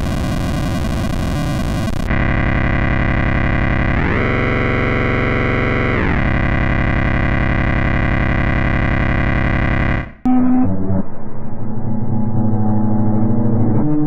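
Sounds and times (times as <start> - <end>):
distorted droning tone: 0.0 - 14.0.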